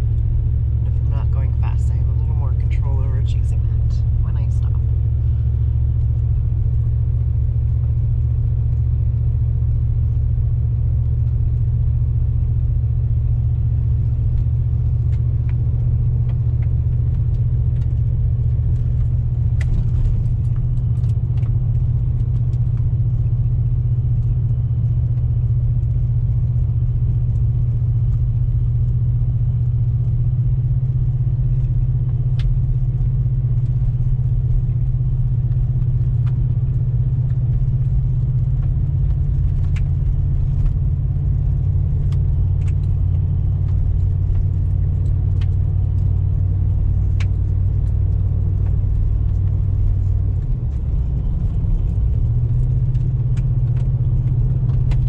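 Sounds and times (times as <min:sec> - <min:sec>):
car exhaust drone: 0:00.0 - 0:55.0.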